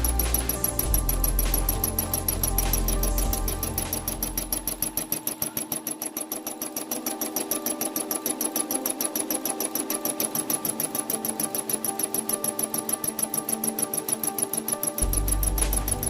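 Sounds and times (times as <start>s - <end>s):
background music: 0.0s - 16.0s
embroidery machine stitching: 0.0s - 16.0s.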